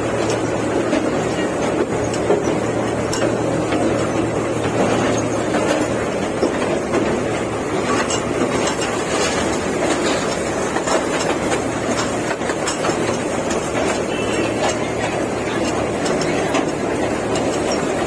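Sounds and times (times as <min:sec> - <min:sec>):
toy train ride rumbling: 0:00.0 - 0:18.0
wheels clattering on rails: 0:00.0 - 0:18.0.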